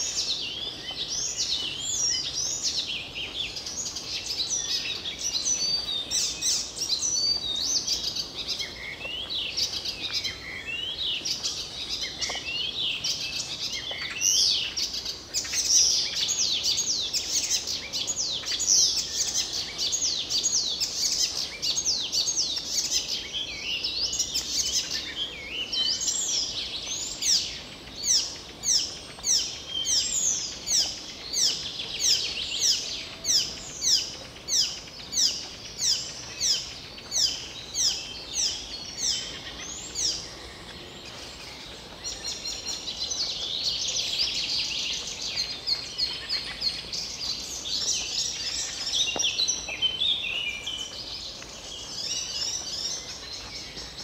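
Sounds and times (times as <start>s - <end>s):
songbirds chorus: 0.0s - 54.0s.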